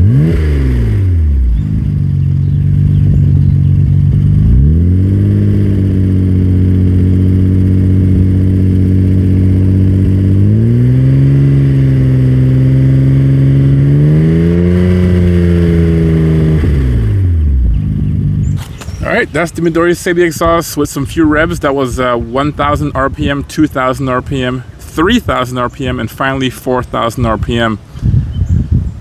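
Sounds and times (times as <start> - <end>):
car exhaust revving: 0.0 - 28.2.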